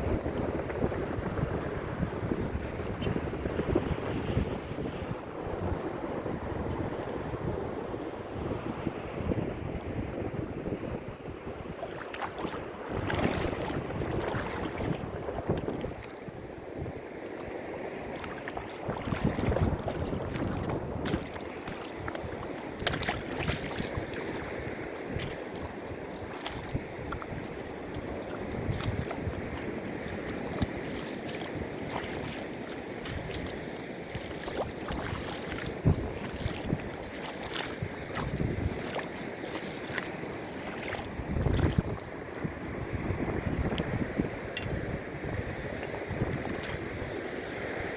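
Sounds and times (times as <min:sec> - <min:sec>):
sea water sloshing and splashing: 0:00.0 - 0:08.6, 0:11.5 - 0:47.9
wind gusts on microphone: 0:00.0 - 0:47.9.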